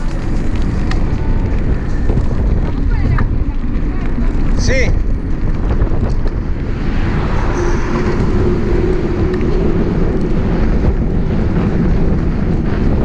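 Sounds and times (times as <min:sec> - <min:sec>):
faint traffic hum: 0:00.0 - 0:13.0
road noise: 0:00.0 - 0:13.0
wind buffeting microphone: 0:00.0 - 0:13.0.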